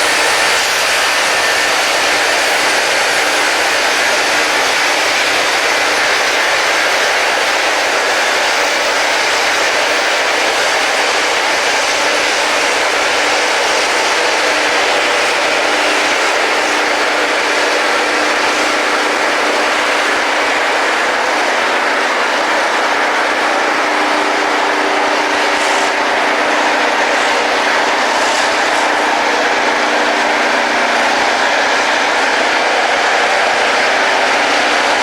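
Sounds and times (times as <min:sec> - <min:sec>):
rail grinding machine grinding: 0:00.0 - 0:35.0.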